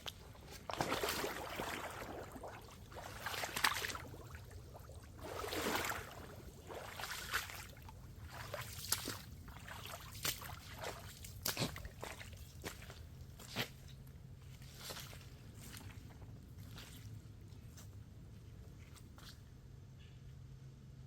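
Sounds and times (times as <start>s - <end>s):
footsteps sloshing through water: 0.0s - 18.0s, 18.7s - 19.5s.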